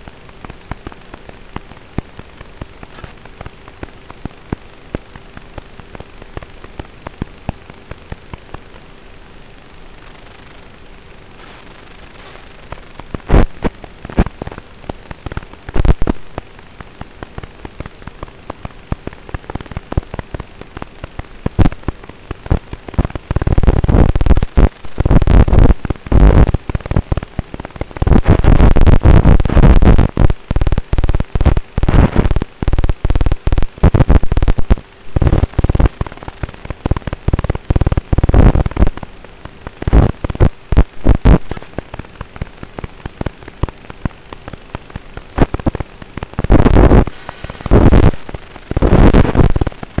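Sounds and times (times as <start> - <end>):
crackling popping static: 0.0 - 50.0.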